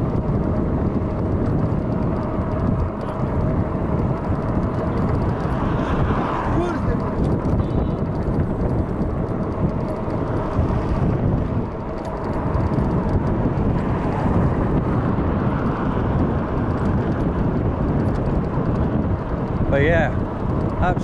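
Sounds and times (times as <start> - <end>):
tyre and road noise: 0.0 - 21.0
wind buffeting microphone: 0.0 - 21.0.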